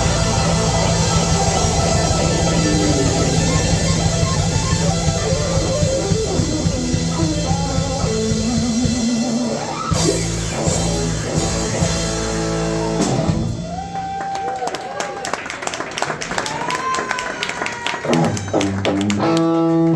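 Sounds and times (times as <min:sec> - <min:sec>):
bass guitar: 0:00.0 - 0:14.2, 0:18.0 - 0:19.9
electric guitar: 0:00.0 - 0:14.2, 0:17.8 - 0:19.9
drums: 0:00.0 - 0:19.9.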